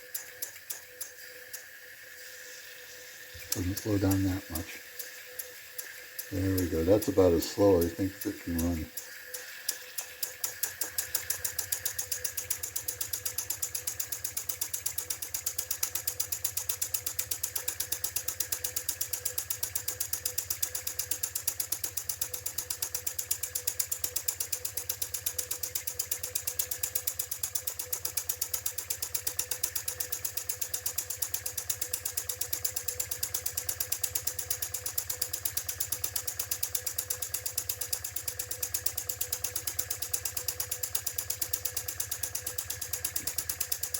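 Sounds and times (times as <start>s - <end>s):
toy steam engine exhaust beats: 0.0s - 43.9s.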